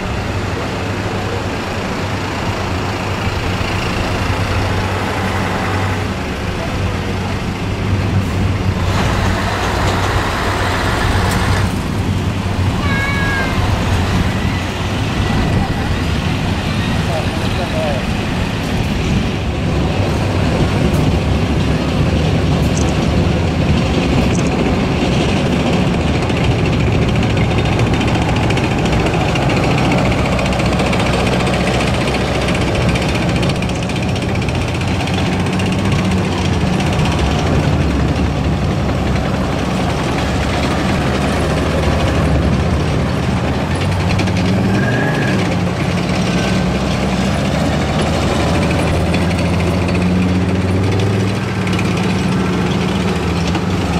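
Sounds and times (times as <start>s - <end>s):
tank diesel engines running loudly: 0.0s - 53.9s
tank tracks on asphalt: 0.0s - 53.9s
trucks driving past: 0.0s - 53.9s.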